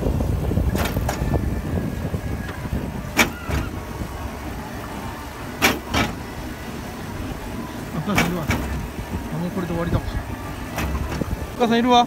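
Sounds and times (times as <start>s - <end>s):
ride car rumbling on track: 0.0s - 12.0s.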